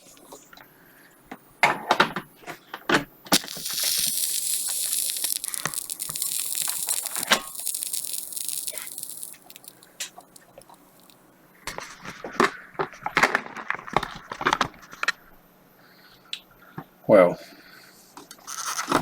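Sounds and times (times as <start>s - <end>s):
power supply hissing and crackling: 0.0s - 15.5s.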